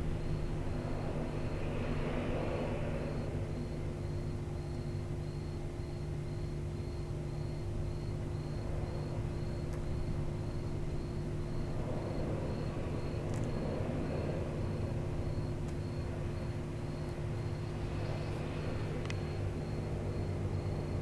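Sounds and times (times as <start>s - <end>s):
faint high-pitched pulsing tone: 0.0s - 21.0s
low background hum: 0.0s - 21.0s.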